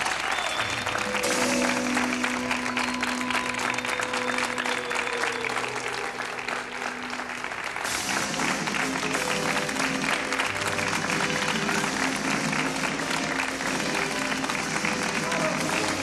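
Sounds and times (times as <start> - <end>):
audience applauding: 0.0 - 16.0
music with long held notes: 0.8 - 16.0.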